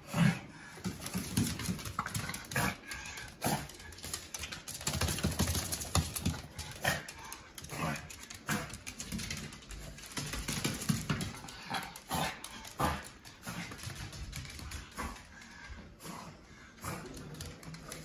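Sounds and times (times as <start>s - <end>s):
dog scrabbling on wooden floor: 0.8s - 15.4s.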